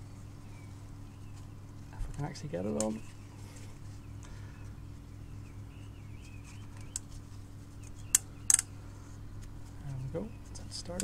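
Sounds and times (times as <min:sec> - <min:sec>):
faint handling sounds: 0:00.0 - 0:11.0
steady low hum: 0:00.0 - 0:11.0.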